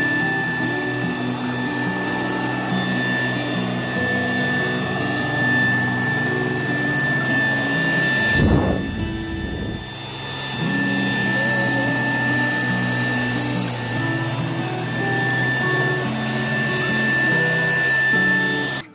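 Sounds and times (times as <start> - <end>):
vacuum cleaner motor whine: 0.0 - 18.9.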